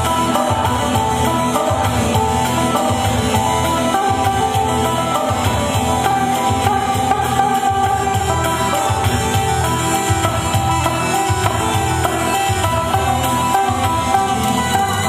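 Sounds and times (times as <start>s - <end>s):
melodic lead line: 0.0s - 15.0s
steady drum rhythm: 0.0s - 15.0s.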